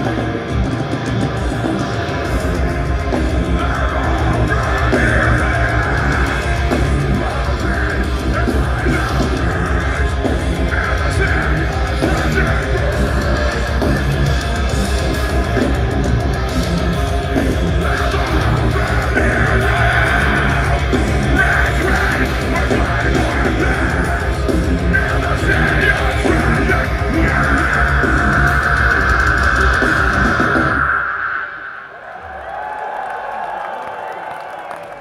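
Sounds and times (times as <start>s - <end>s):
fast drums: 0.0s - 31.3s
distorted guitars and bass: 0.0s - 31.8s.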